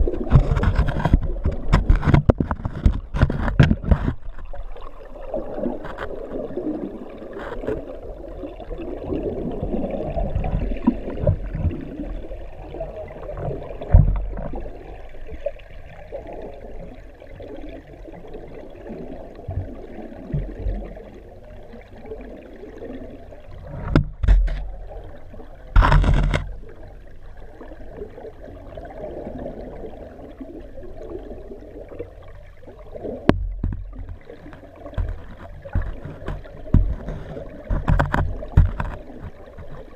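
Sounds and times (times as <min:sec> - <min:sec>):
water rushing and gurgling: 0:00.0 - 0:39.9.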